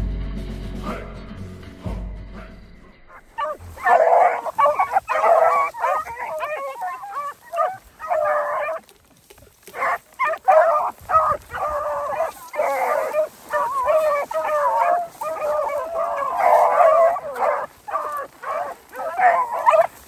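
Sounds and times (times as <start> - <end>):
hounds baying: 2.3 - 20.0.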